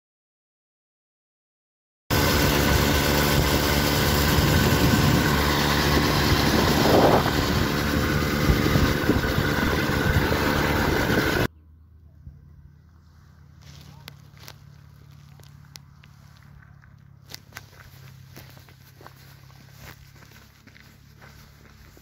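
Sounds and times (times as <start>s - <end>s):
road and wind noise: 2.1s - 22.0s
vehicle engine hum: 2.1s - 22.0s.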